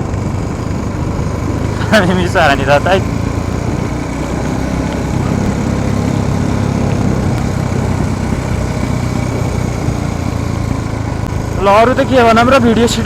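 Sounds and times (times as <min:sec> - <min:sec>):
motorcycle engine putting: 0:00.0 - 0:13.0.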